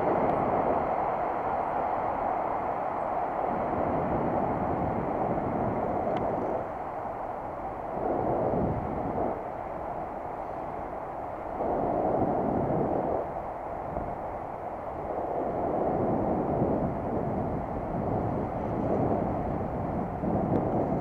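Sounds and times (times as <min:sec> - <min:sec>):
dull rumble of bicycle ride: 0:00.0 - 0:21.0
wind rushing over microphone: 0:00.0 - 0:21.0.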